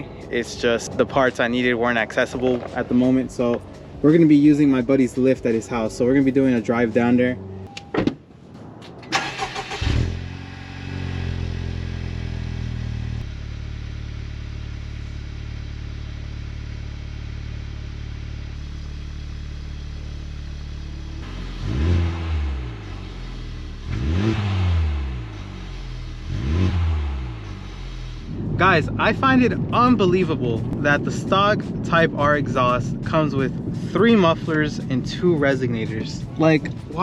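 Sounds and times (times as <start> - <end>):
car engine starting and idling: 0.0 - 37.0
engine revving: 5.7 - 7.7, 9.0 - 37.0.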